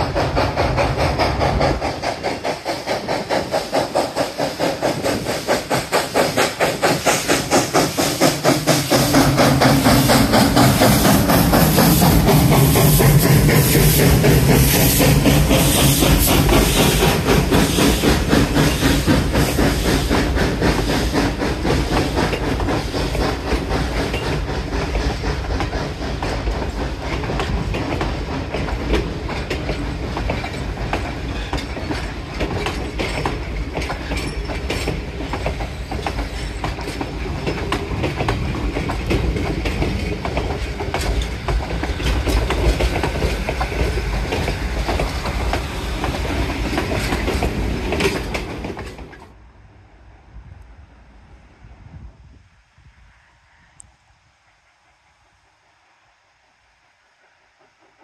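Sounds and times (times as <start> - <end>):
steam locomotive chuffing: 0.0 - 49.4
wheels clicking over rail joints: 0.0 - 49.4
train coaches rumbling by: 0.0 - 55.5, 56.6 - 58.0.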